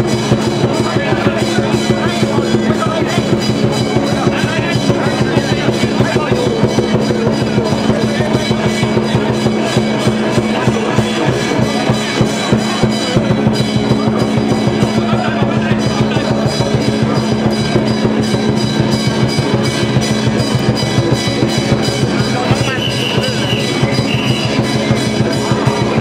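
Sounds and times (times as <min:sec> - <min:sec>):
fast drums and percussion: 0:00.0 - 0:26.0.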